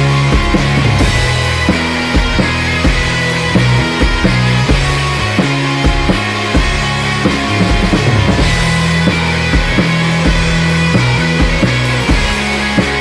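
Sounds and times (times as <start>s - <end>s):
psychedelic rock band playing: 0.0s - 13.0s.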